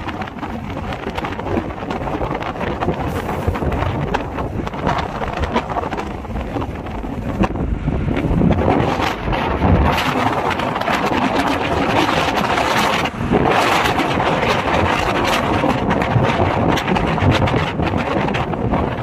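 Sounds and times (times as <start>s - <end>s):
road and engine noise: 0.0s - 19.0s
wind buffeting microphone: 0.0s - 19.0s.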